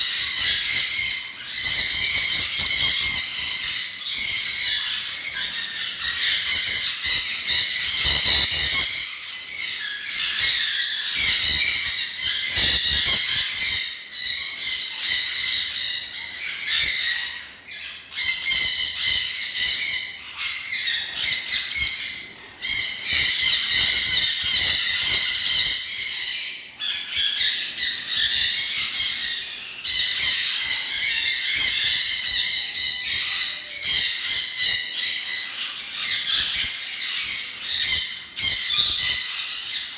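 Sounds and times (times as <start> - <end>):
cage birds chirping and squawking: 0.0 - 39.9.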